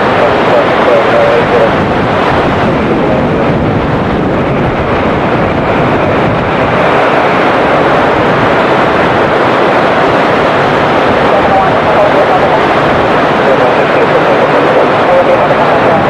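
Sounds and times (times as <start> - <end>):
heavy rain: 0.0 - 16.0
wind buffeting microphone: 0.0 - 16.0.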